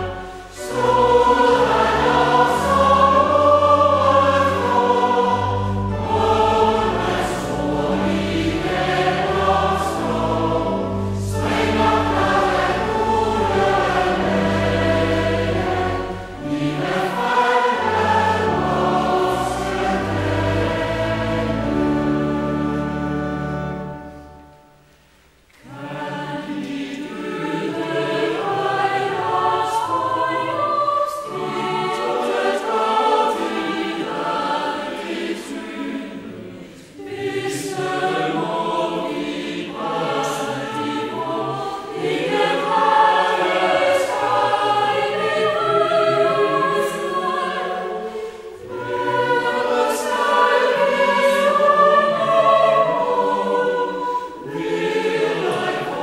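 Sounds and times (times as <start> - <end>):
choir singing: 0.0 - 24.8, 25.6 - 56.0.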